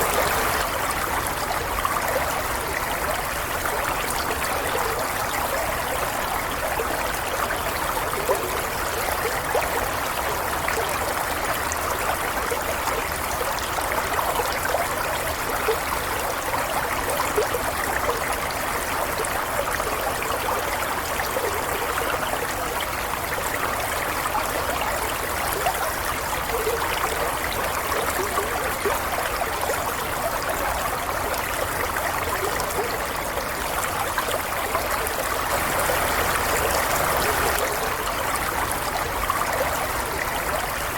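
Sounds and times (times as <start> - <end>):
stream water burbling: 0.0 - 40.9.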